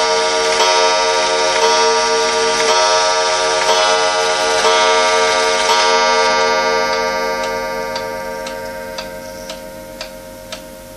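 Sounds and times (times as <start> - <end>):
pendulum clock ticking: 0.0 - 10.9
wall clock striking chime: 0.0 - 10.9.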